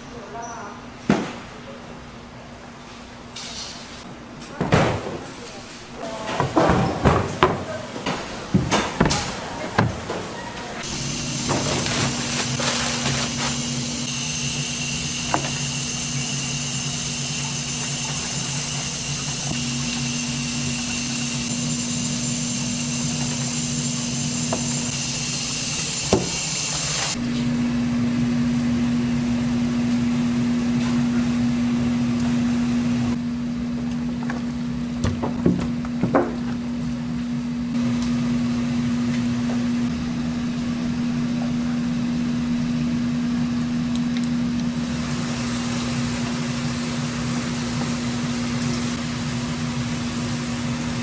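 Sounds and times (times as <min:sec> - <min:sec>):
machine hum: 0:05.9 - 0:51.0.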